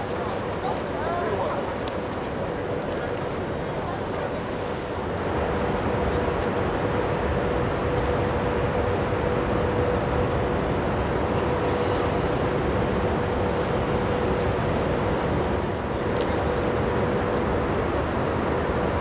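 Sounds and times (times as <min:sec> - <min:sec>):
ship machinery drone: 0:00.0 - 0:19.0.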